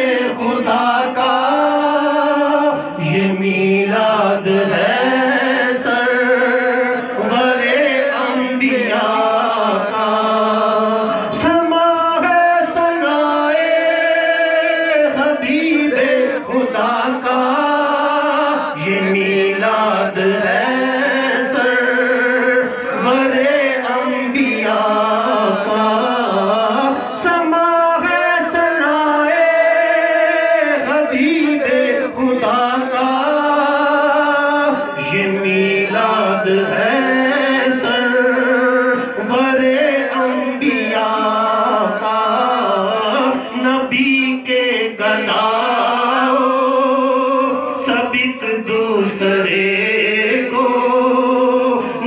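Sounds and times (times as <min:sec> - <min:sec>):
man singing into a microphone: 0:00.0 - 0:52.0.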